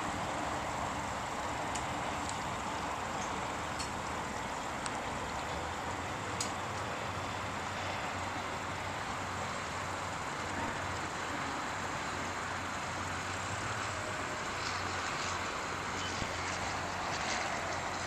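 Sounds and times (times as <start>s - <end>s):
outboard motors droning: 0.0s - 18.0s.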